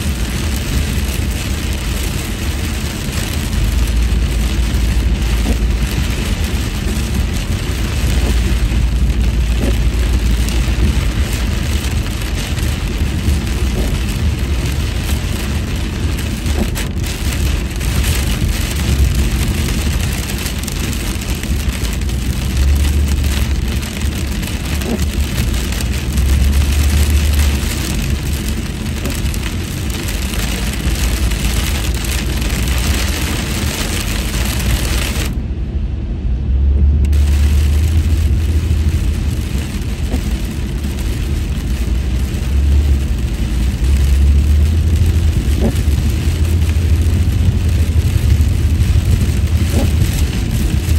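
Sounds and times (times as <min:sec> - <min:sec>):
rain and wet tyres hissing: 0:00.0 - 0:50.9
road and engine rumble: 0:00.0 - 0:50.9.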